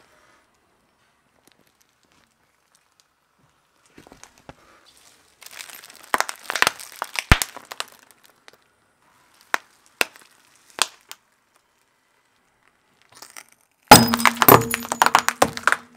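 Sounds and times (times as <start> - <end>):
objects cracking under a car tyre: 1.4 - 15.9.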